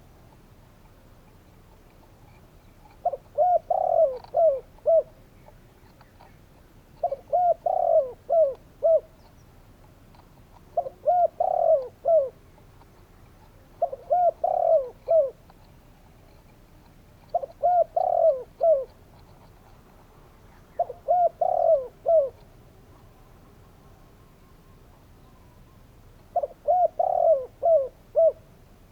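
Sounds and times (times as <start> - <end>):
dove cooing: 2.3 - 6.4, 7.0 - 9.3, 10.2 - 15.5, 17.2 - 28.6.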